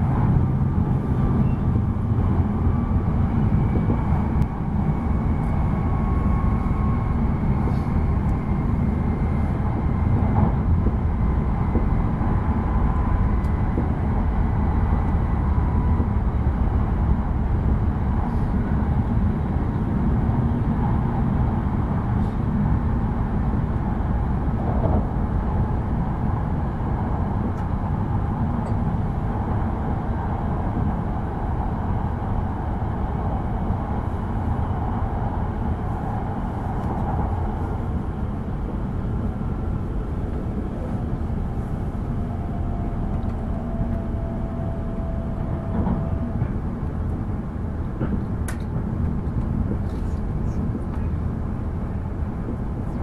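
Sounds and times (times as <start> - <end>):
train running gear rumble: 0.0 - 53.0.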